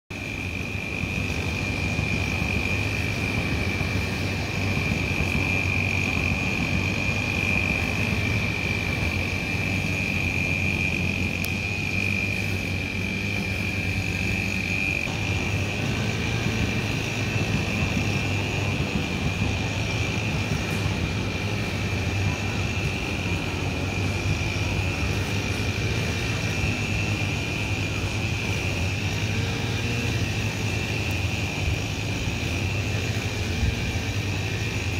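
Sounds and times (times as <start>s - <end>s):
high whine: 0.1s - 34.9s
steady mechanical hum: 0.1s - 34.9s.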